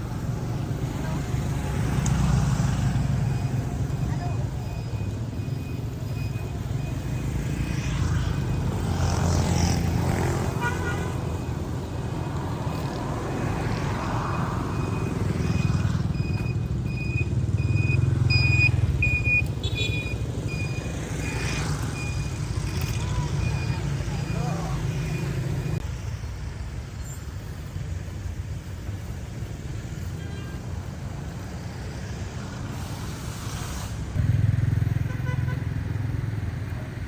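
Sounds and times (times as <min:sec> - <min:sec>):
motorbike engine and road rumble: 0:00.0 - 0:37.0.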